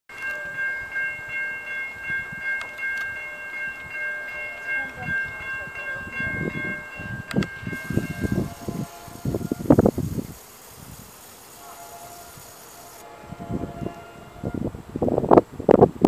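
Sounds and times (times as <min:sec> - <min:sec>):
crossing warning bell ringing: 0:00.1 - 0:14.7.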